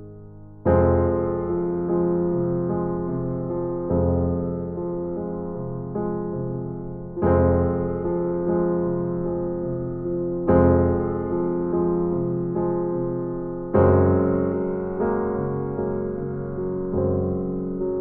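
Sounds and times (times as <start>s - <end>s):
slow electric piano chords: 0.0s - 18.0s.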